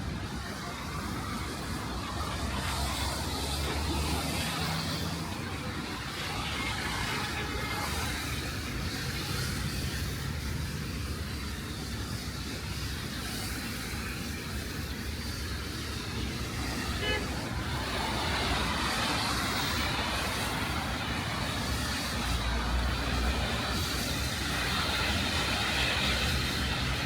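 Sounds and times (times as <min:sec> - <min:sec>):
tyres on wet road: 0:00.0 - 0:27.0.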